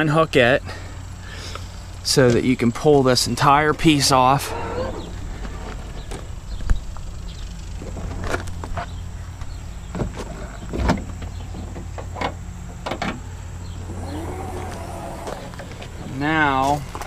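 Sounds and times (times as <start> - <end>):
steady low hum: 0.0 - 9.9, 11.3 - 17.0.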